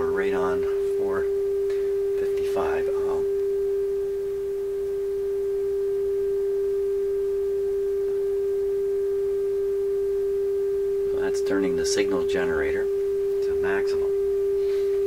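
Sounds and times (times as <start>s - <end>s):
steady test tone from loudspeaker: 0.0s - 15.0s.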